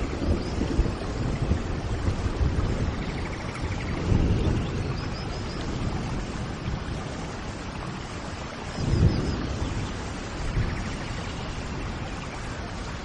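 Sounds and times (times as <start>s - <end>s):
rainfall hiss: 0.0s - 13.0s.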